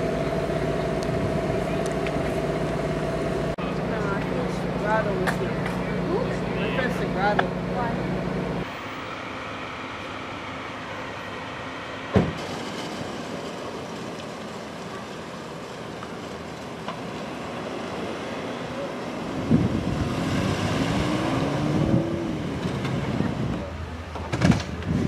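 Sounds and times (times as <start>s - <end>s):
street traffic: 0.0s - 25.0s
vehicle engine passing: 0.0s - 25.0s.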